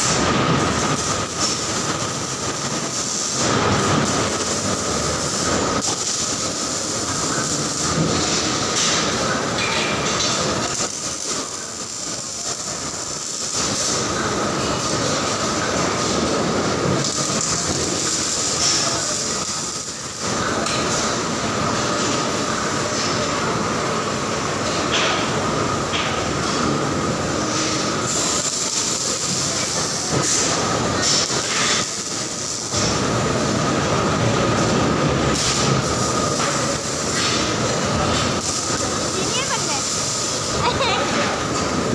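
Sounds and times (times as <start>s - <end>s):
factory machine noise: 0.0s - 41.9s
welding arc crackling: 0.0s - 41.9s.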